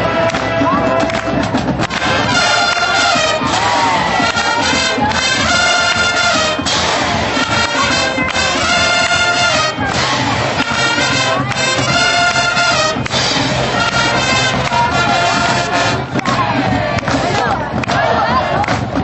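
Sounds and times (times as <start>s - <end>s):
brass chords: 0.0s - 19.0s
marching band playing: 0.0s - 19.0s.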